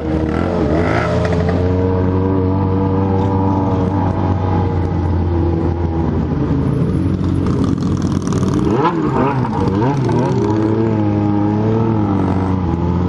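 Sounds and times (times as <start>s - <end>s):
motorcycle engine running loud: 0.0s - 13.0s
other motorcycles riding: 0.0s - 13.0s.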